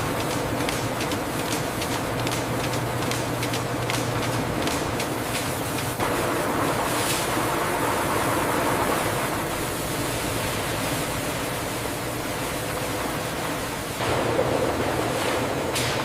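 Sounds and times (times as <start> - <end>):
production-line machinery: 0.0 - 16.0.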